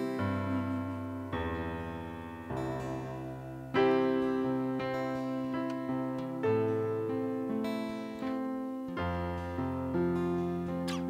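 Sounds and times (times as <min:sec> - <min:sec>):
acoustic guitar: 0:00.0 - 0:11.0
electric piano chords: 0:00.0 - 0:11.0.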